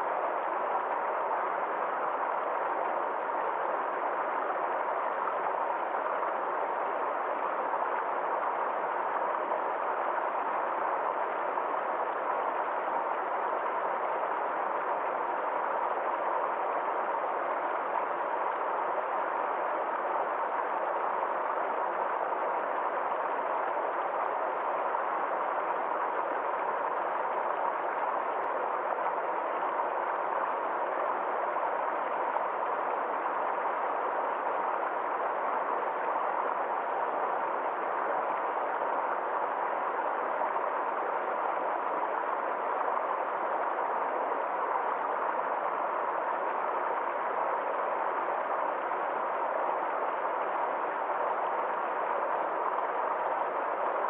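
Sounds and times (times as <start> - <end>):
stream water rushing: 0.1 - 54.0.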